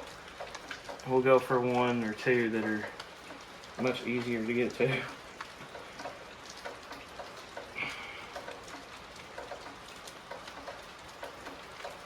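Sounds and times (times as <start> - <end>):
light ticks: 0.0 - 12.0
steady rain falling: 0.0 - 12.0.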